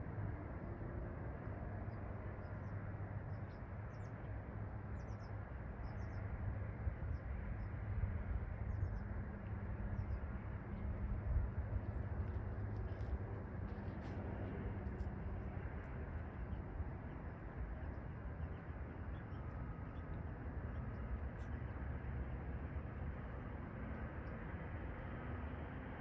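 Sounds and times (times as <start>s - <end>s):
steady low hum: 0.1s - 26.0s.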